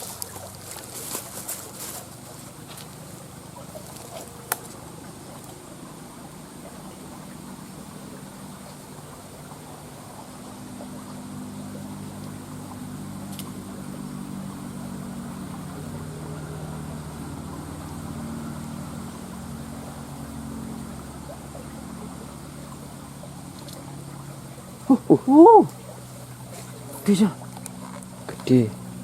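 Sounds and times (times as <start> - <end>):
motor engine humming: 0.0 - 29.0.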